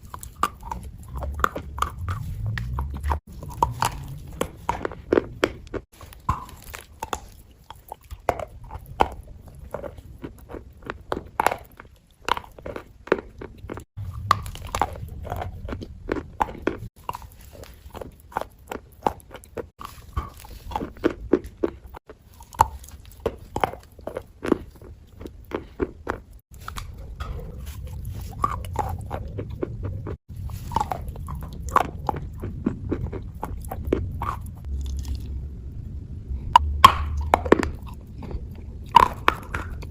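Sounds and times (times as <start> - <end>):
wet crunching eating sounds: 0.0 - 35.6, 36.6 - 39.9.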